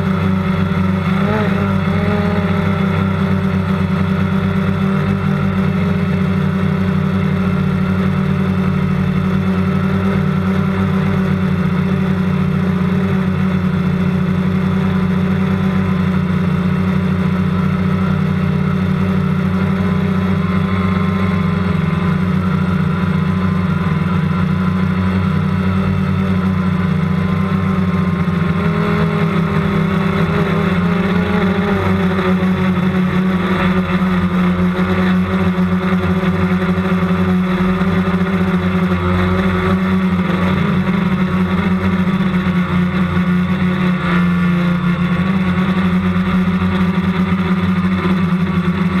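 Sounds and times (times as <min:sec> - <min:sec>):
model aircraft motor humming: 0:00.0 - 0:49.0.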